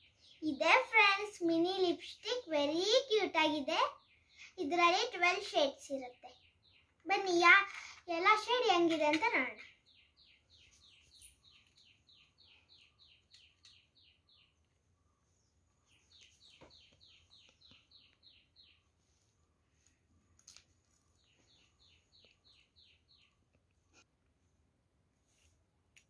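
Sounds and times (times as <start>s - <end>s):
bird chirping: 0.0s - 24.1s.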